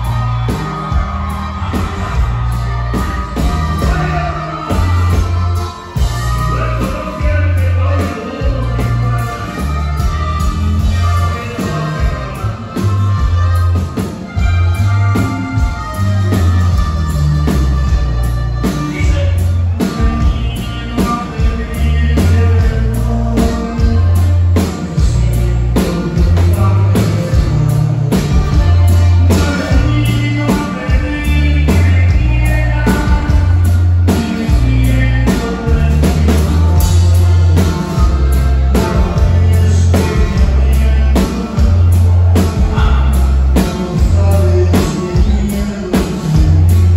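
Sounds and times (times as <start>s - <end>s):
accordion melody: 0.0s - 46.9s
bass line: 0.0s - 46.9s
guitars: 0.0s - 46.9s.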